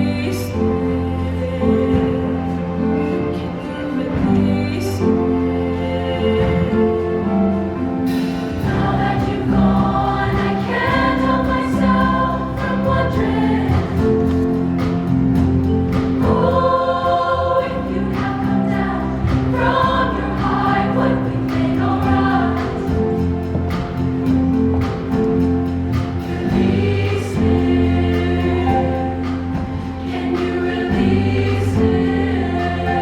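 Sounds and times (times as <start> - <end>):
choir singing in harmony: 0.0 - 33.0
live backing band: 0.0 - 33.0.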